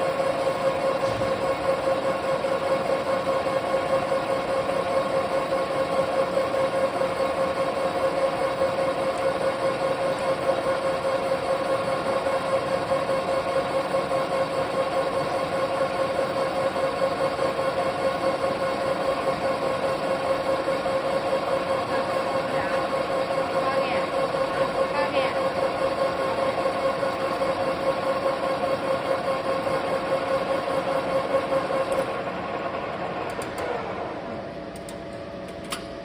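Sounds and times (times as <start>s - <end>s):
metal lathe whining: 0.0s - 34.8s.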